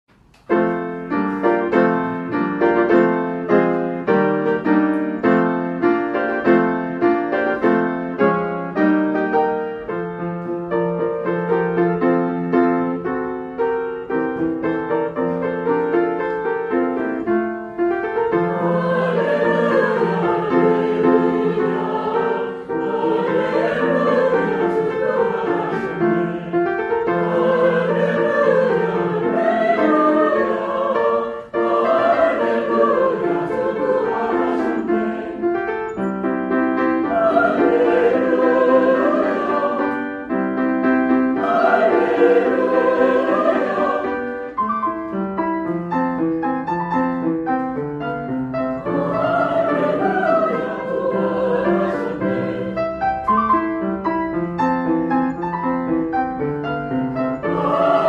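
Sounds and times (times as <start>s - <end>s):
piano chords: 0.1s - 58.0s
church choir singing: 0.7s - 44.7s, 48.2s - 58.0s.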